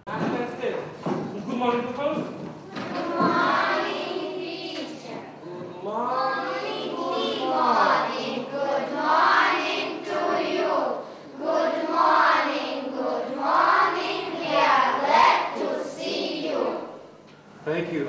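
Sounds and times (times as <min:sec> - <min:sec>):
children singing together: 0:02.6 - 0:17.1.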